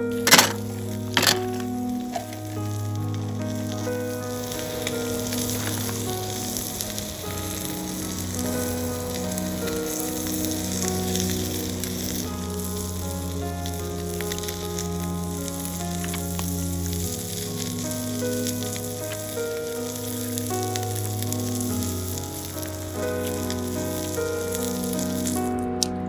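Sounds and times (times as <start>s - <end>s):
background music of held notes: 0.0s - 26.0s
food sizzling: 0.0s - 26.0s.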